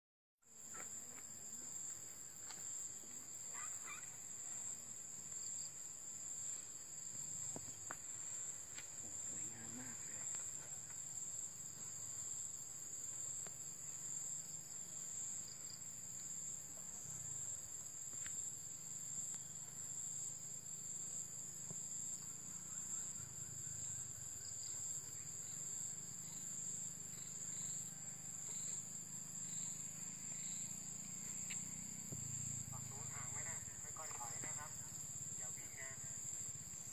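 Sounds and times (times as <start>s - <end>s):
insects droning: 0.5s - 36.9s.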